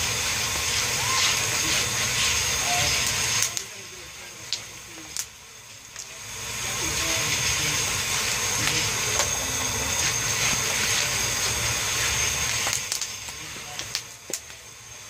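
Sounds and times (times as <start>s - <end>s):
wooden paddle stirring kernels: 0.0s - 5.2s, 6.0s - 14.4s
kernels sizzling in kettle: 0.0s - 15.0s.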